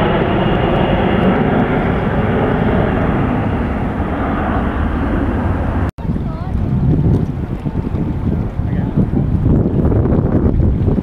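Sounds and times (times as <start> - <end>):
jet aircraft passing overhead: 0.0 - 11.0.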